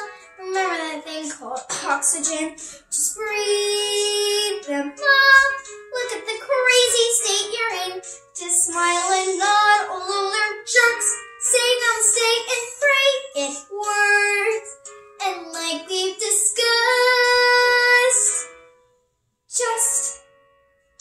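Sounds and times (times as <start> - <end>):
girl singing: 0.0 - 18.5, 19.5 - 20.2.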